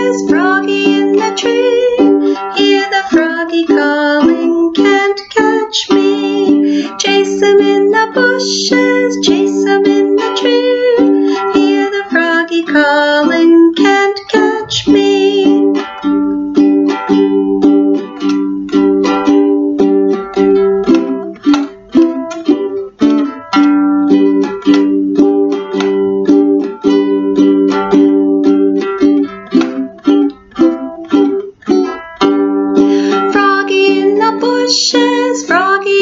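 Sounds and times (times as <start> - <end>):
ukulele strumming: 0.0 - 36.0.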